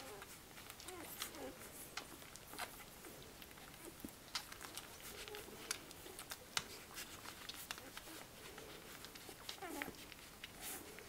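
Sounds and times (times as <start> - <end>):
puppies rustling in bedding: 0.0 - 11.0.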